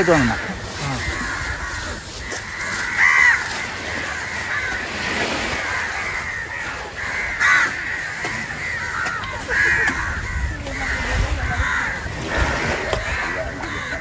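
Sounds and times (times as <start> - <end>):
crows cawing: 0.0 - 14.0.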